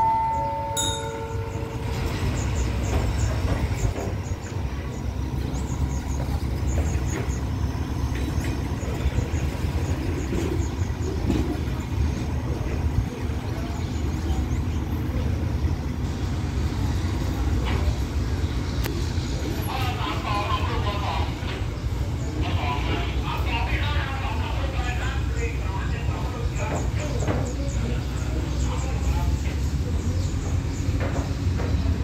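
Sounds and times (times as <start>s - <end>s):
passenger train rolling: 0.0s - 32.0s.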